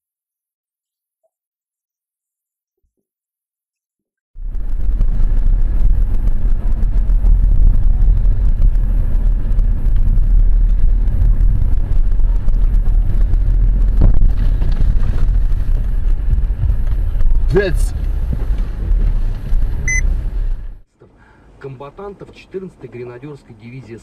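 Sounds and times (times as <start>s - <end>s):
car road and engine rumble: 4.4s - 24.0s.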